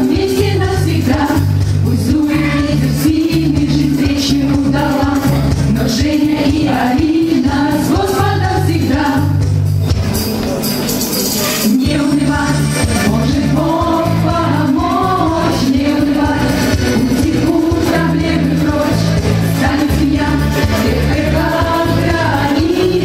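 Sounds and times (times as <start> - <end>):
person singing: 0.0 - 9.3, 11.4 - 23.0
backing band with bass line: 0.0 - 23.0.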